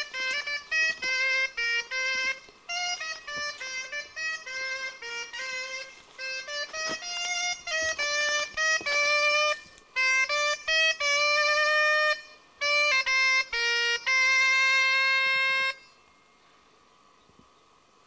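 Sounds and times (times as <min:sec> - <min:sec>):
double-reed oboe playing tune: 0:00.0 - 0:16.4.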